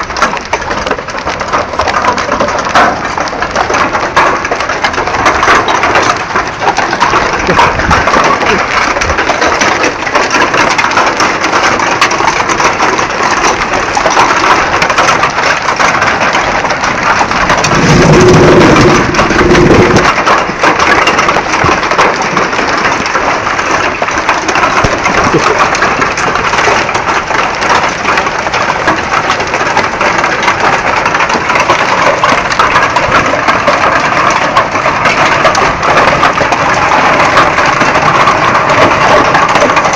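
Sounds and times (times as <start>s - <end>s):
hail falling hard: 0.0s - 39.9s.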